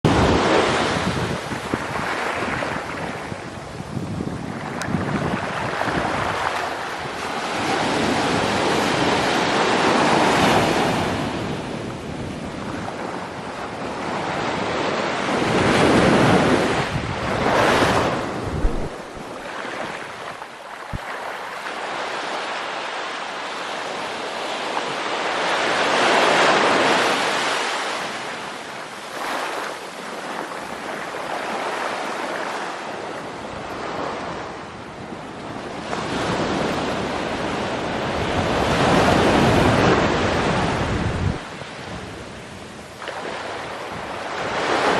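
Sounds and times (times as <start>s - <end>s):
sea waves breaking on shore: 0.1s - 44.9s.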